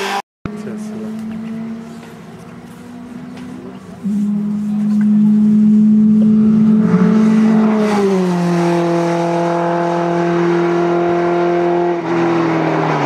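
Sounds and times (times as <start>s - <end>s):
racing car engine passing: 0.0s - 13.0s.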